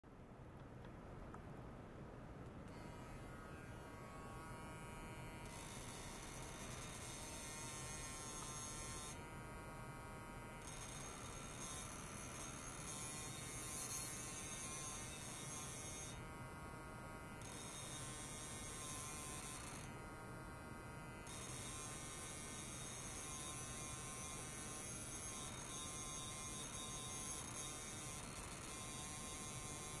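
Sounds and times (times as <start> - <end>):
steady electrical buzz: 1.0 - 30.0.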